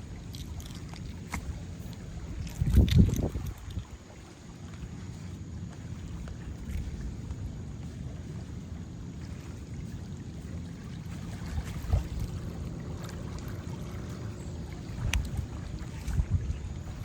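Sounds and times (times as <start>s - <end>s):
river water moving: 0.0s - 17.0s
wind on microphone: 0.0s - 17.0s.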